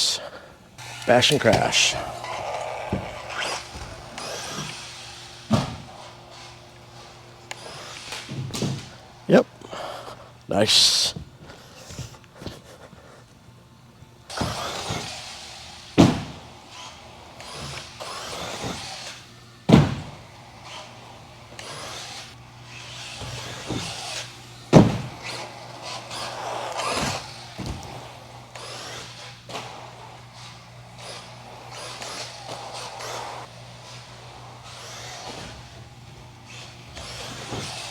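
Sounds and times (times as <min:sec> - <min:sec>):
rc car motor whining: 0:00.0 - 0:11.2, 0:14.2 - 0:37.9.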